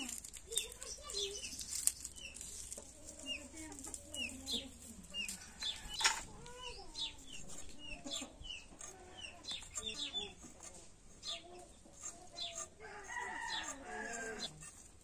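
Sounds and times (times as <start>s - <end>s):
chicks peeping: 0.0s - 14.8s
hen clucking: 0.7s - 15.0s.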